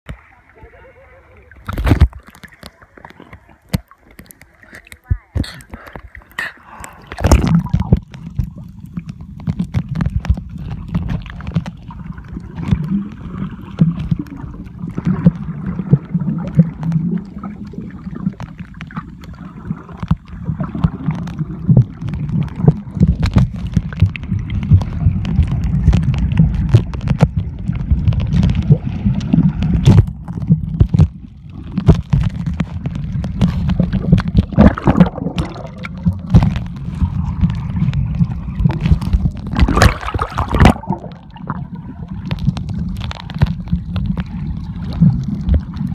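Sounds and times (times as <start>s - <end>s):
underwater rumble of moving water: 0.0s - 45.9s.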